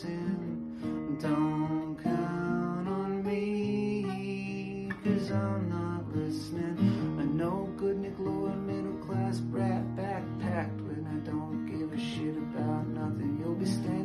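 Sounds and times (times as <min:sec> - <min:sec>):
acoustic guitar strumming and picking: 0:00.0 - 0:14.0.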